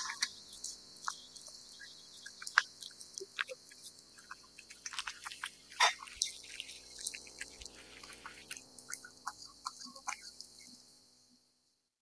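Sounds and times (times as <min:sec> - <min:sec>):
cat eating wet food: 0:00.0 - 0:10.9.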